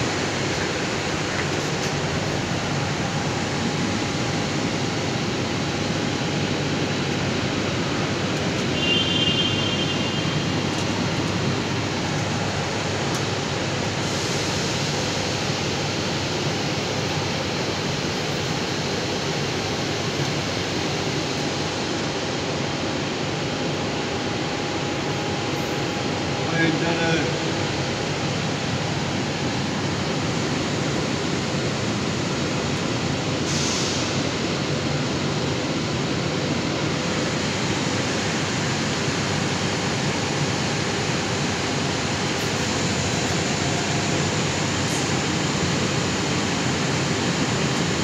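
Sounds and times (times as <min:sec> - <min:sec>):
factory machinery hiss: 0:00.0 - 0:48.0.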